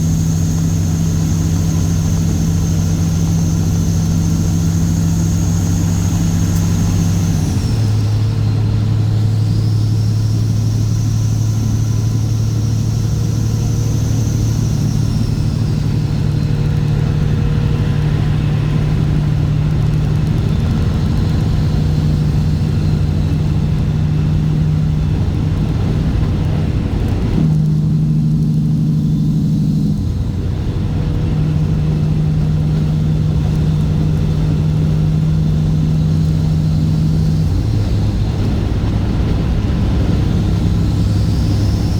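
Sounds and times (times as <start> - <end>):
diesel truck engine: 0.0 - 41.9.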